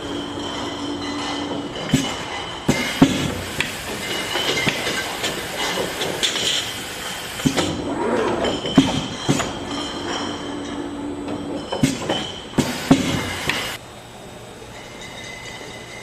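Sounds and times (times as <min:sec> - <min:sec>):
bottle filling machine clatter: 0:00.0 - 0:13.8.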